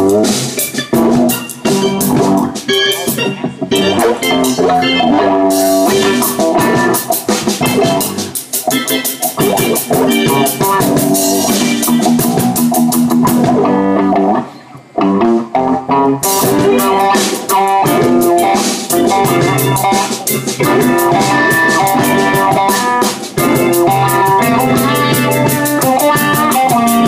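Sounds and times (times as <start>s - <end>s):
drum kit: 0.0s - 14.4s, 16.2s - 27.0s
bass guitar: 0.0s - 27.0s
electric guitar: 0.0s - 27.0s.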